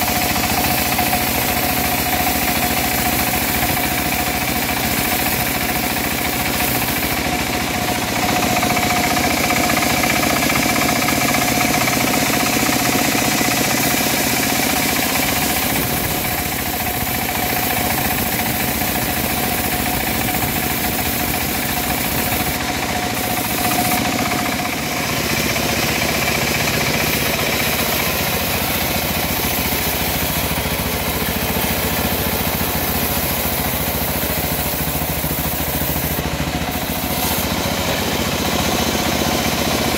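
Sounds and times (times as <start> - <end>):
bandsaw sawmill cutting a log: 0.0 - 39.9.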